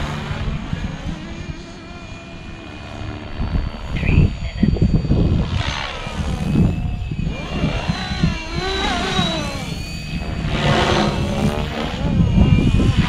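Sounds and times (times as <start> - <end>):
rc helicopter rotor whine: 0.0 - 13.0
wind rumble on microphone: 0.0 - 13.0.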